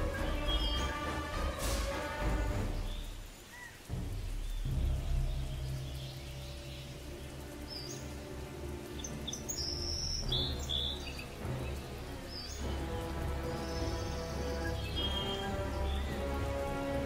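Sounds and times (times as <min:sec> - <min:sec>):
bird-like chirps and calls: 0:00.0 - 0:17.0
low music drone: 0:00.0 - 0:17.0.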